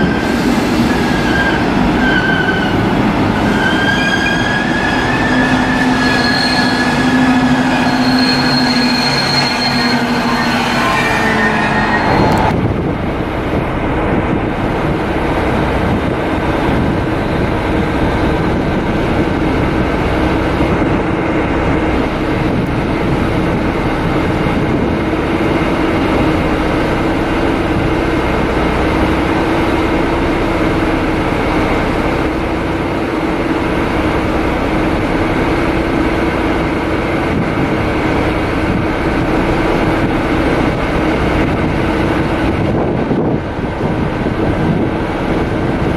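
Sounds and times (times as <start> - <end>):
train running: 0.0 - 45.9.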